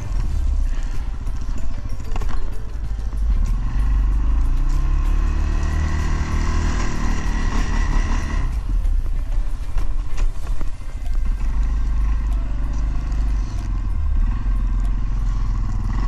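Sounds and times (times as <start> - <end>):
atv engine revving: 0.0 - 16.0
engine whine: 0.0 - 16.0.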